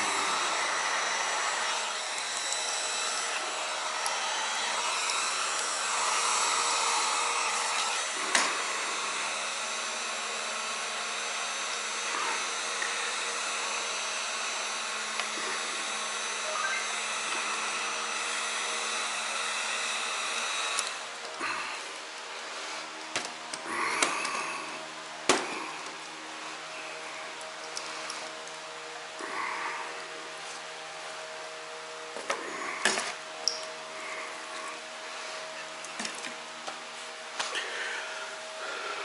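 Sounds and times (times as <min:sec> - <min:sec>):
small motor running with air rush: 0:00.0 - 0:39.0.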